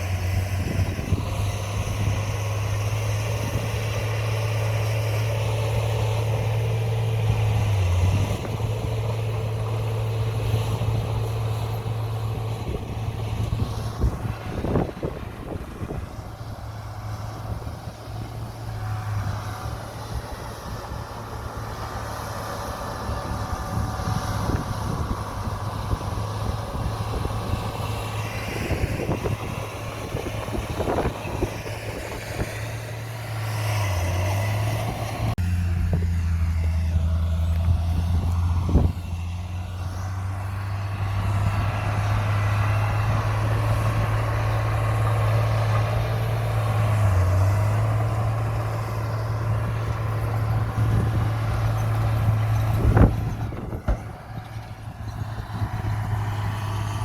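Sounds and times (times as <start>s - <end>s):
heavy diesel machinery engine drone: 0.0s - 57.0s.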